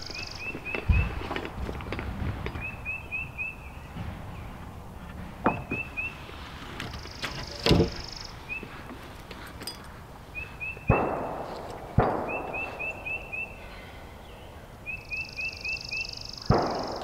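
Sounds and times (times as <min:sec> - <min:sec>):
bird chirping: 0:00.0 - 0:01.6, 0:02.5 - 0:04.8, 0:05.4 - 0:17.0.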